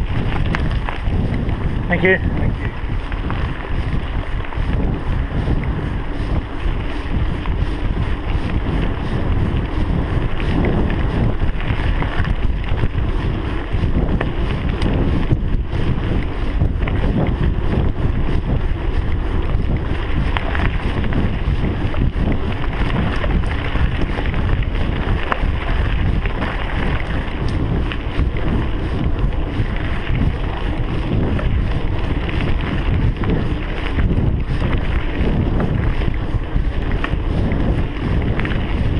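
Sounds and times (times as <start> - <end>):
tyres rumbling over gravel: 0.0 - 38.9
wind buffeting microphone: 0.0 - 38.9.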